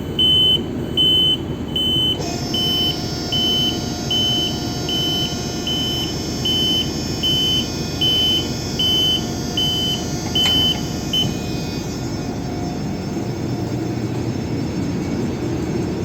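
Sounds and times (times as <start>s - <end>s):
engine room machinery din: 0.0s - 16.0s.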